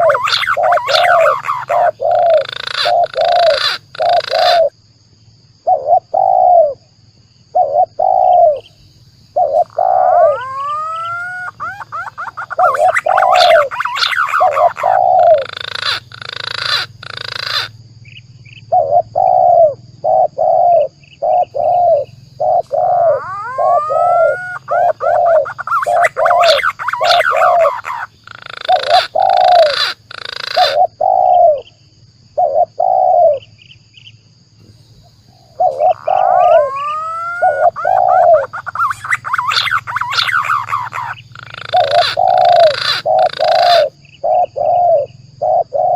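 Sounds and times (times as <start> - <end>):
doves cooing: 0.0 - 4.7, 5.7 - 6.8, 7.5 - 8.7, 9.3 - 17.8, 18.7 - 31.6, 32.4 - 33.4, 34.6 - 45.9
pigeons whistling calls: 0.0 - 4.7, 5.7 - 6.8, 9.4 - 17.8, 18.7 - 31.6, 35.4 - 45.9
harsh hissing bird calls: 0.0 - 4.8, 5.6 - 6.8, 7.5 - 31.7, 34.6 - 45.9.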